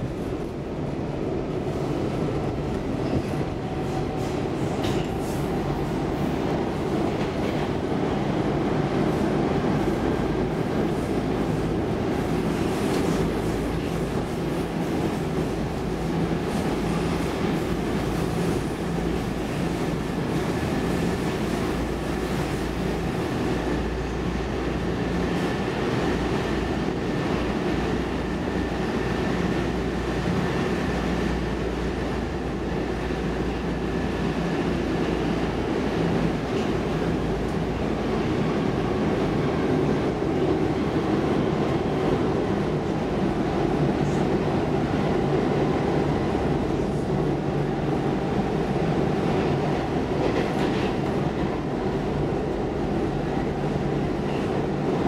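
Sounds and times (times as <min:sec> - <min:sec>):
subway car wheels rumbling on rail: 0:00.0 - 0:55.0.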